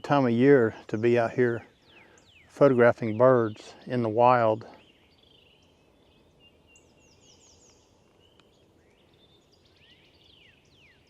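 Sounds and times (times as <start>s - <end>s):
distant birdsong: 0.0s - 11.0s.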